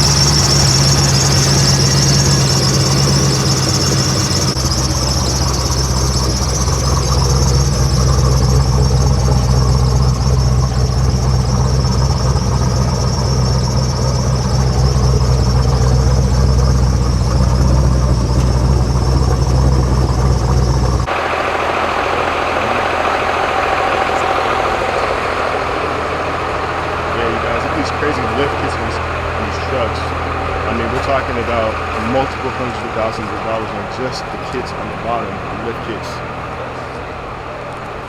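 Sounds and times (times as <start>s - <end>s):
high-pitched whine: 0.0s - 38.0s
vehicle engine running: 0.0s - 38.0s.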